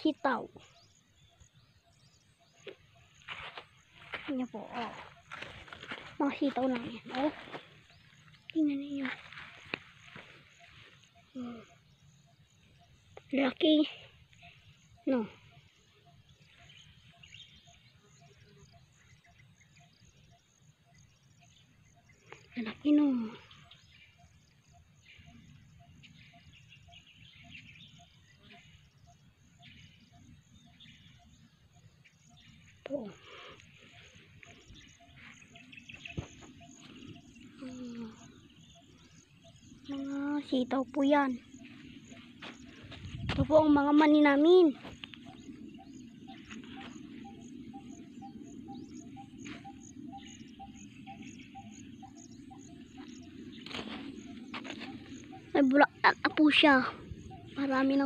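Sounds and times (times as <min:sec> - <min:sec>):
birds chirping: 0:00.0 - 0:58.0
insects trilling: 0:00.0 - 0:58.0.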